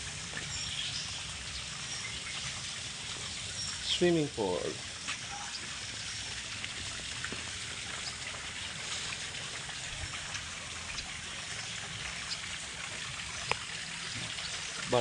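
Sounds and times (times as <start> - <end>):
water drips ticking: 0.0 - 15.0
water trickling and splashing: 0.0 - 15.0.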